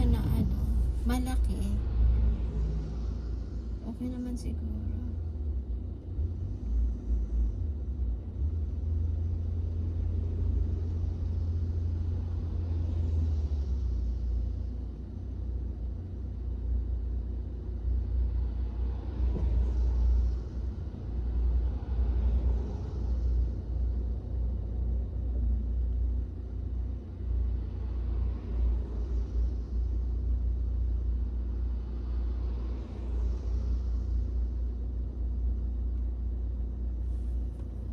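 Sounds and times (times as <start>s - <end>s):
road rumble inside car: 0.0s - 37.9s.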